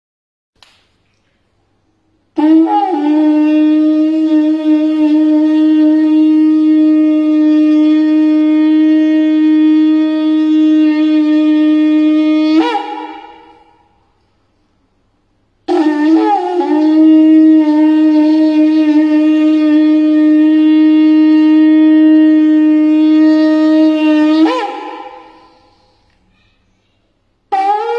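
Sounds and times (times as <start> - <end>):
shofar blown in long note: 2.4 - 14.1, 15.7 - 26.1, 27.5 - 27.9.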